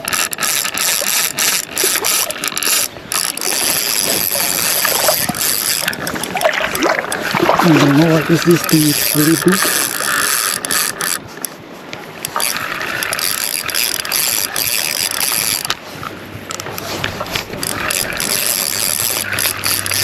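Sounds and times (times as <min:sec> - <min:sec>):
fishing reel ratcheting: 0:00.0 - 0:11.6, 0:12.2 - 0:15.8, 0:16.5 - 0:20.0.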